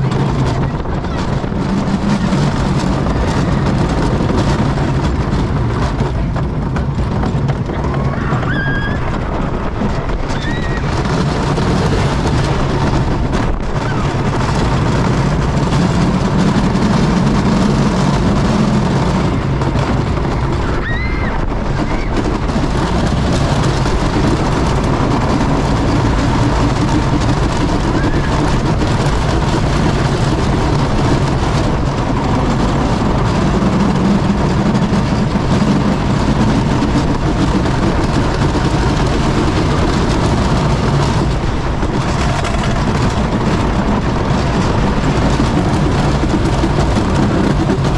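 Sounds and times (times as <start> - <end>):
roller coaster wheels rumbling: 0.0 - 47.9.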